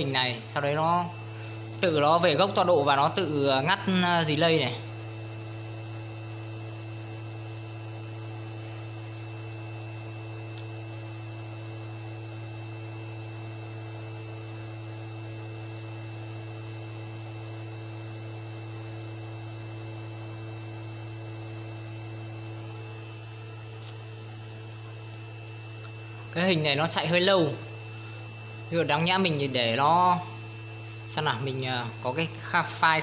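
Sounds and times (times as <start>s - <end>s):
spindle motor humming: 0.0s - 33.0s.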